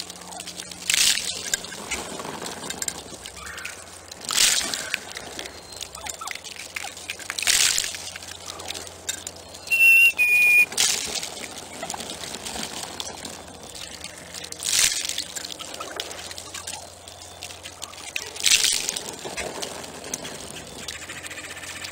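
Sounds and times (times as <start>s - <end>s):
scratchy crunching of feeding turkeys: 0.0s - 21.9s.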